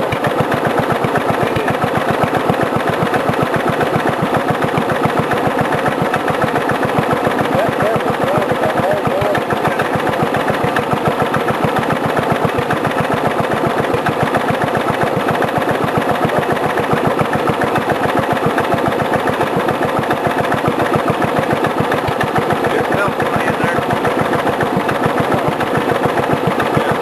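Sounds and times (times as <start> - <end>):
lawn mower engine idling: 0.0 - 27.0.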